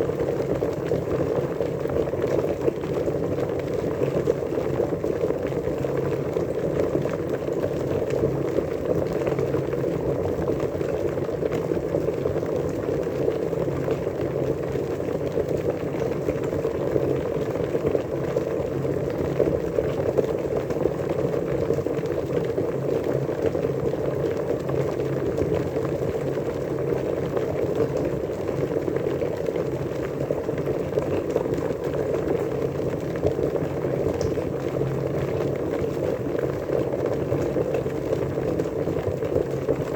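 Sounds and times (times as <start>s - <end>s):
water boiling: 0.0s - 39.9s.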